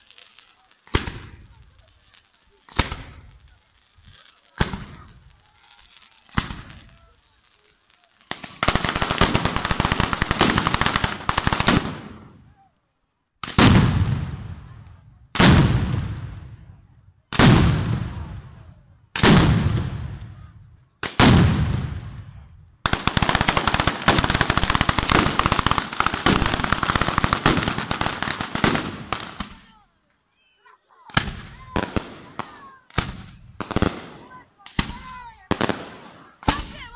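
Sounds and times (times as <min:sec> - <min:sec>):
firecrackers banging: 0:00.0 - 0:12.4, 0:13.4 - 0:16.6, 0:17.3 - 0:18.5, 0:19.2 - 0:29.8, 0:31.0 - 0:36.9.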